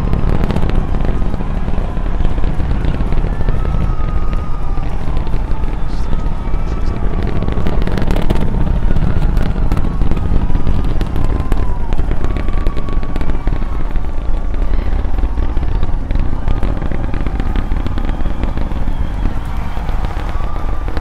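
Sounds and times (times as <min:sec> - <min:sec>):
crackling pops: 0:00.0 - 0:21.0
rocket engines rumbling: 0:00.0 - 0:21.0.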